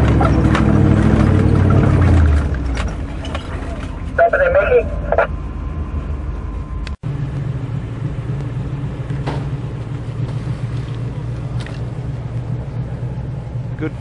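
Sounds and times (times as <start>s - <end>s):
engine low drone: 0.0s - 14.0s.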